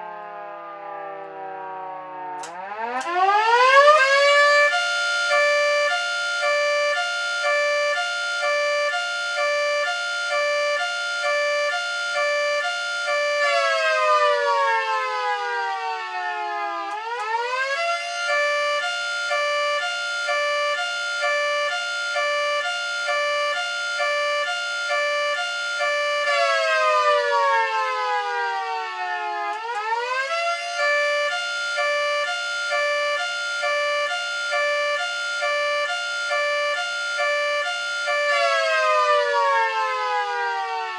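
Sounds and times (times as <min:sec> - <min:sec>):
two-tone siren: 0:00.0 - 0:40.9.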